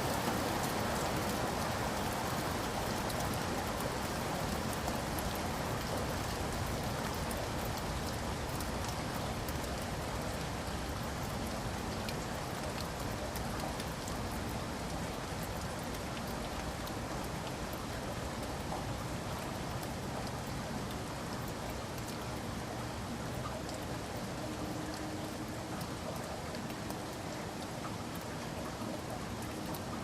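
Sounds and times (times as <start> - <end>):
raindrops ticking: 0.0 - 30.0
steady rain hiss: 0.0 - 30.0.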